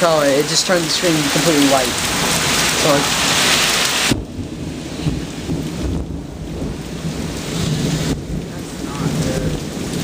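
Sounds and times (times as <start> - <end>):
steady rain: 0.0 - 10.0
thunder rumbling: 0.0 - 10.0.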